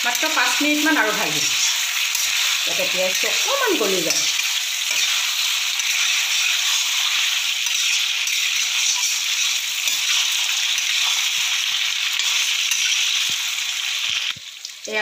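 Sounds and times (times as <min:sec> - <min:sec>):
chicken and onion sizzling: 0:00.0 - 0:15.0
spatula scraping pan: 0:00.1 - 0:13.4.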